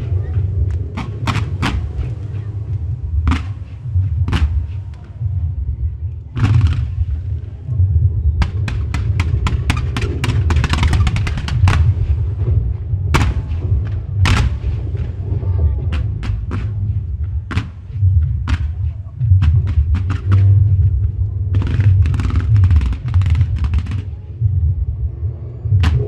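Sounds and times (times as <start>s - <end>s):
fireworks crackling: 0.0s - 5.2s, 6.1s - 7.7s, 8.4s - 24.2s
fireworks bangs and booms: 0.0s - 7.8s, 8.4s - 24.2s
low rumble: 0.0s - 26.0s.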